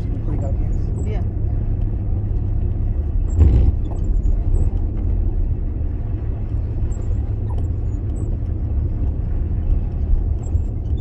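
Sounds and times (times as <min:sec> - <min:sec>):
car interior road and engine noise: 0:00.0 - 0:11.0.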